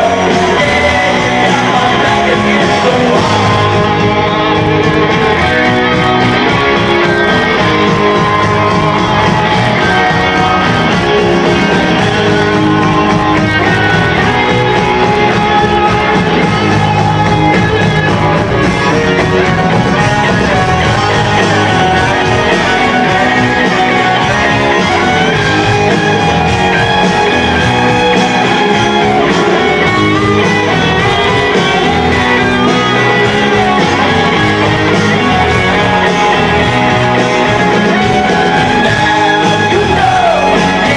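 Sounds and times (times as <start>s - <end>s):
live rock band with electric guitars: 0.0s - 40.9s.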